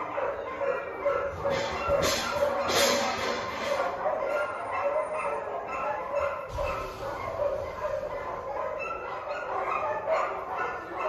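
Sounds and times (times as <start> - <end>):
animal whining and yipping: 0.6 - 11.0.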